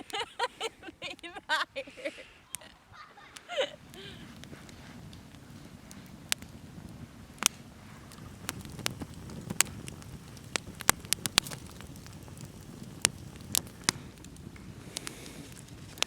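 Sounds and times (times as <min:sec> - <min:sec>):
campfire crackling and popping: 0:00.0 - 0:16.0
low steady hiss: 0:00.0 - 0:16.0.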